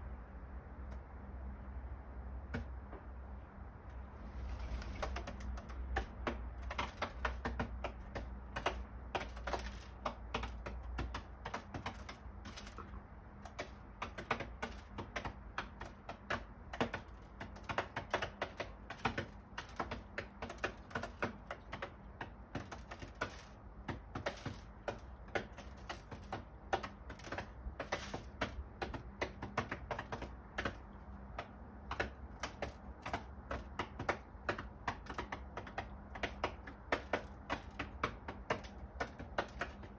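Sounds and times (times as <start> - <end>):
birds pecking on windowsill: 2.0 - 39.9.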